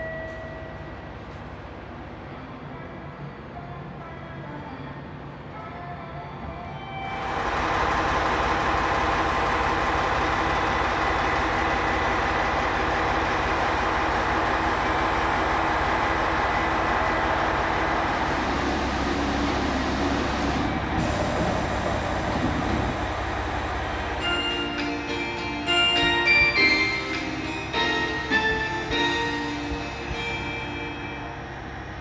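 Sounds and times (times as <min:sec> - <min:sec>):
train rumbling: 0:06.4 - 0:32.0.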